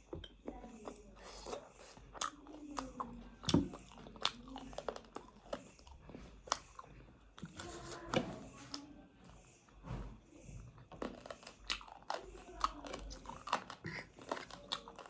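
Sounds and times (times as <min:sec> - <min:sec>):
person chewing and crunching: 0:00.0 - 0:09.4, 0:10.6 - 0:15.0.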